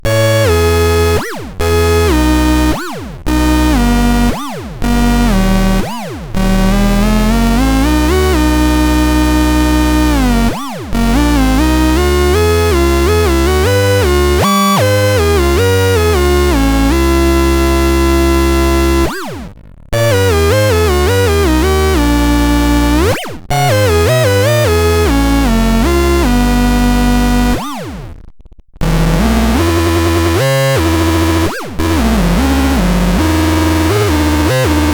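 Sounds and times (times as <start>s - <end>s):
buzzy synthesizer notes: 0.0s - 28.2s, 28.8s - 34.9s
heavy bass: 0.0s - 34.9s.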